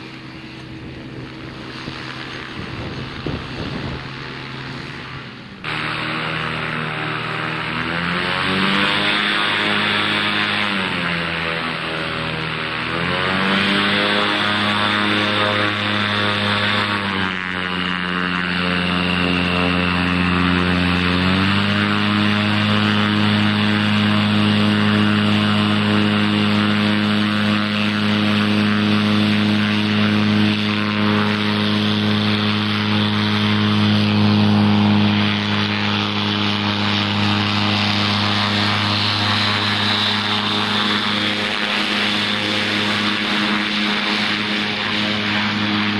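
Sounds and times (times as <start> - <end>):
ultralight aircraft engine and propeller: 0.0 - 45.9.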